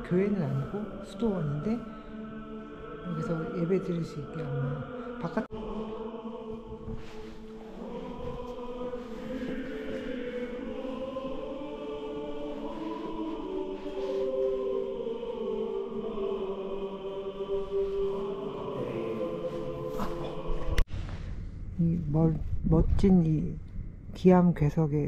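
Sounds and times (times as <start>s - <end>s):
slow choral chant: 0.0s - 21.2s.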